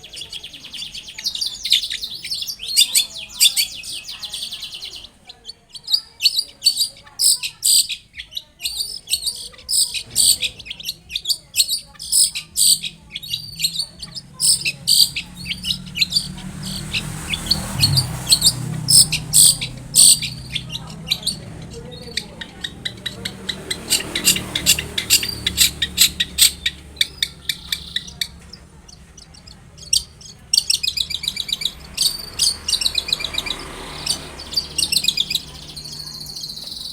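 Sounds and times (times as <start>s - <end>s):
bird chattering song: 0.0s - 36.9s.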